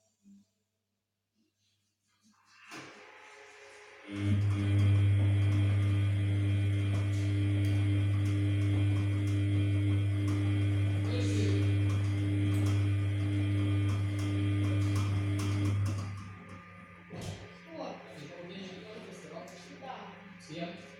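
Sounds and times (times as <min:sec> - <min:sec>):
washing machine electrical hum: 0:03.0 - 0:20.9.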